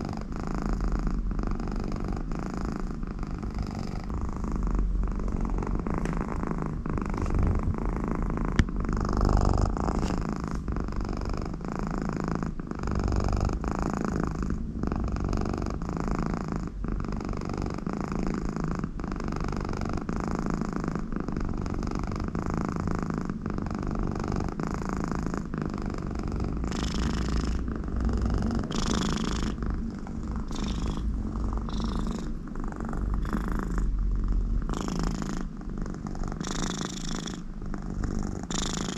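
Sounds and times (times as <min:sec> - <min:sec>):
cat purring: 0:00.0 - 0:38.9
cat snoring through nose: 0:00.0 - 0:38.9.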